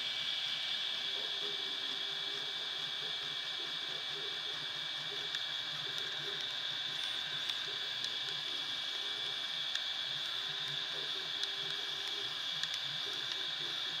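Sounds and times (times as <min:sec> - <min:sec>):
fan hiss: 0:00.0 - 0:14.0.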